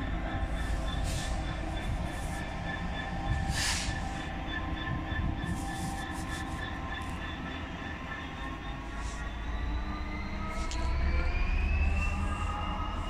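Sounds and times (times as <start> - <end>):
high ringing wheel squeal: 0.0 - 13.0
train wheels rumbling on rail: 0.0 - 13.0.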